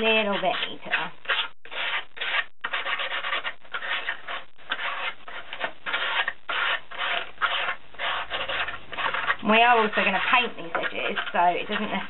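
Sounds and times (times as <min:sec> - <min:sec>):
sandpaper rubbing on cardboard: 0:00.2 - 0:12.0.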